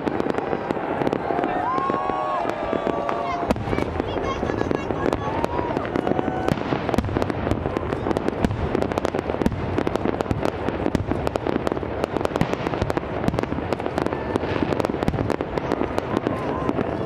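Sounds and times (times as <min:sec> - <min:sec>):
fireworks rumble and crackle: 0:00.0 - 0:17.0.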